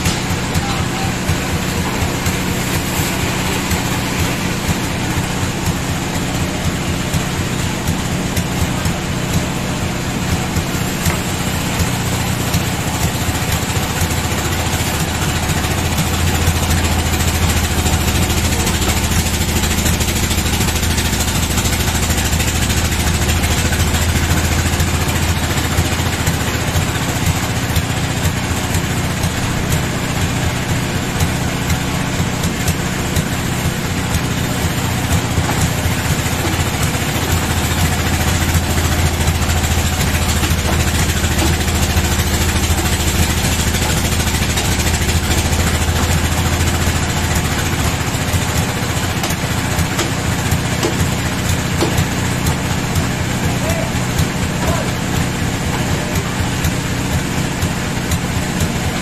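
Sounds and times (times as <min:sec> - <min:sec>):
band saw mill droning: 0:00.0 - 0:59.0.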